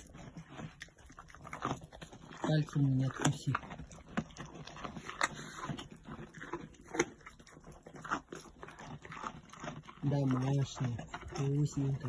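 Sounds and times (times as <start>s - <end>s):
animal chewing a carrot: 0.0s - 12.0s.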